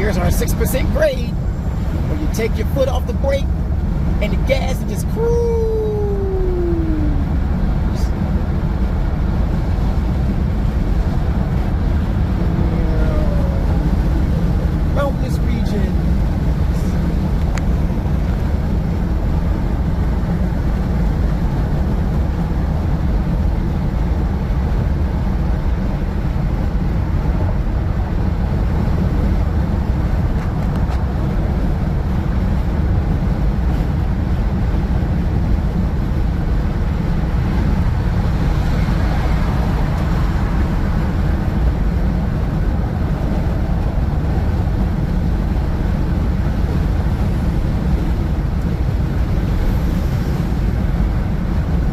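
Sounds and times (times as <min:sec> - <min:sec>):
car cabin road noise: 0:00.0 - 0:51.9.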